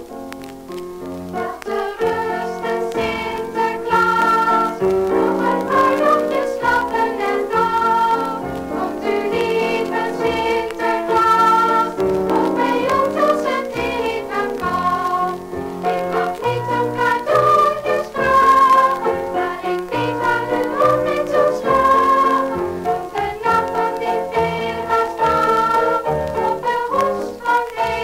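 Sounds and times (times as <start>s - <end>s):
choir singing with instruments: 1.4s - 28.0s.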